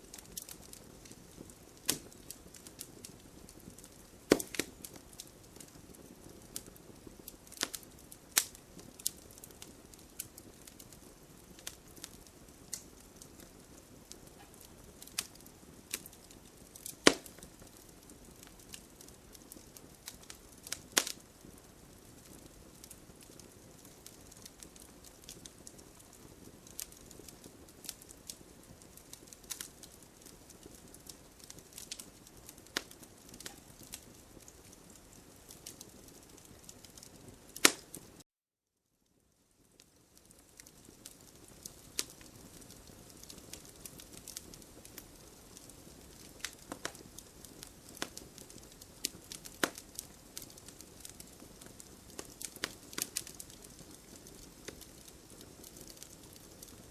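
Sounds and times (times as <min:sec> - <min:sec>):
campfire flames rushing: 0:00.0 - 0:38.2, 0:39.6 - 0:56.9
fire crackling and popping: 0:00.0 - 0:38.2, 0:39.1 - 0:56.9.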